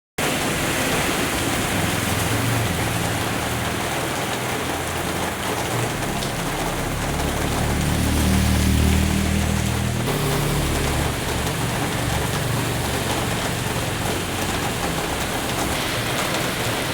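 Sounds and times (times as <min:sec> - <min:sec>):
heavy rain falling: 0:00.2 - 0:16.9.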